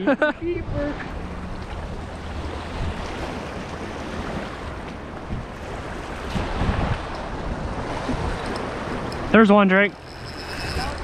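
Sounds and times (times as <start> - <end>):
wind on microphone: 0.4 - 9.4, 10.0 - 11.0
waves splashing against rocks: 0.6 - 11.0.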